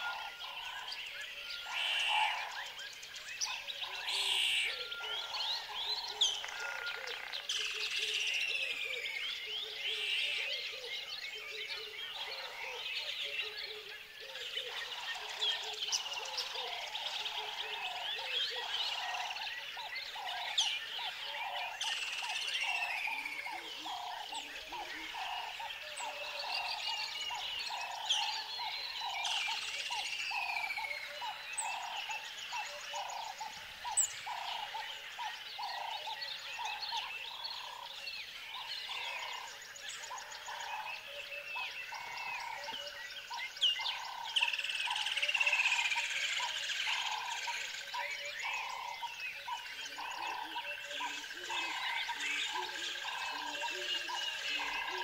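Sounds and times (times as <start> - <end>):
birds chirping and whistling: 0.0 - 55.0
frogs croaking: 0.0 - 55.0.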